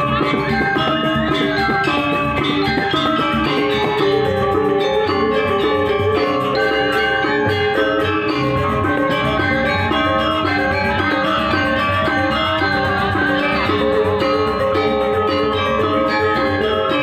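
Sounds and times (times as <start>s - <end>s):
drums: 0.0s - 17.0s
gamelan music: 0.0s - 17.0s
metallophones ringing: 0.0s - 17.0s.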